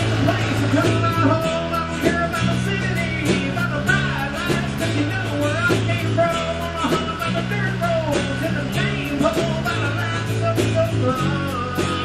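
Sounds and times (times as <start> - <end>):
rock music with guitar: 0.0 - 12.0.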